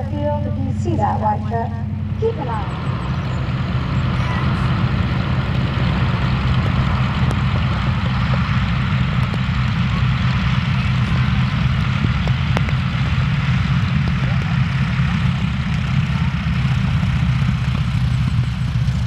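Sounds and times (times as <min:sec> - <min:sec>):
radial aircraft engine rumbling: 0:00.0 - 0:19.0.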